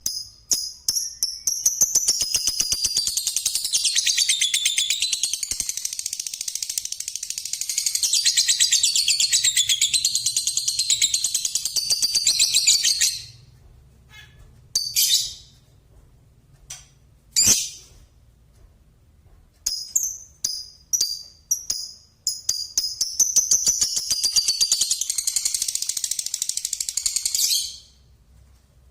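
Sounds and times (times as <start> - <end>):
lovebird chirps: 0.0 - 13.4, 14.1 - 15.6, 17.4 - 17.9, 19.6 - 28.0.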